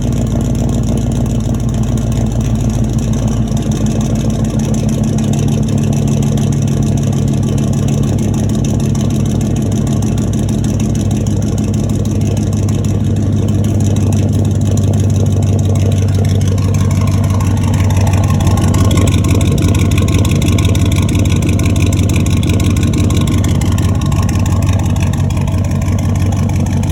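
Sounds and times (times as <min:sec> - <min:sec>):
loud unmuffled engine idling: 0:00.0 - 0:26.9.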